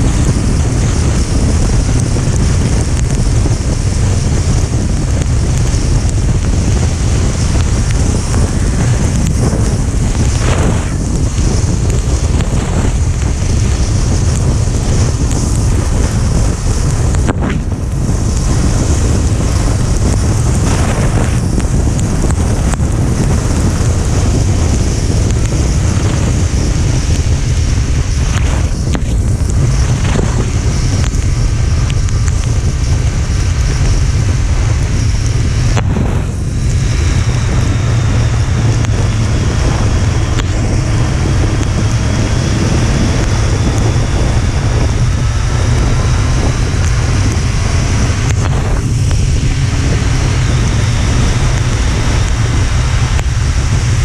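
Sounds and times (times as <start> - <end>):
faint engine drone: 0.0 - 54.0
wind buffeting microphone: 0.0 - 54.0.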